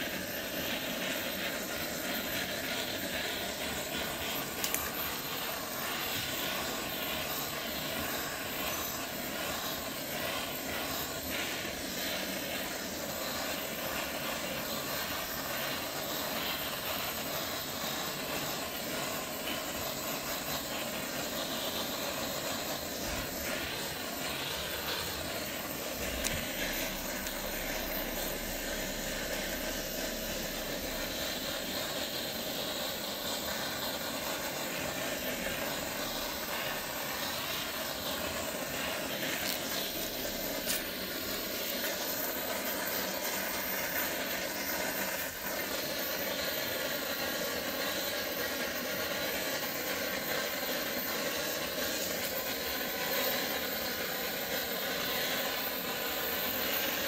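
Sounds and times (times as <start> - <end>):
blowtorch flame hissing: 0.0 - 57.0.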